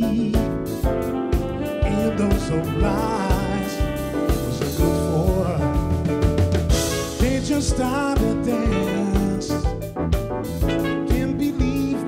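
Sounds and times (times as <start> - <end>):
bass: 0.0 - 12.0
drum kit steady beat: 0.0 - 12.0
trumpet and saxophone melody: 0.0 - 12.0.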